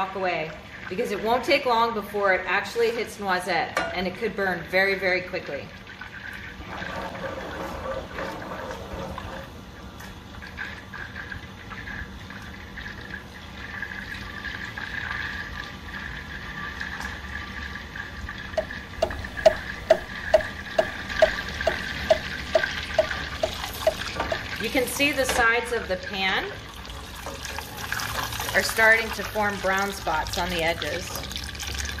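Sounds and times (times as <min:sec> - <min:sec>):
butter boiling and sizzling: 0:04.4 - 0:32.0.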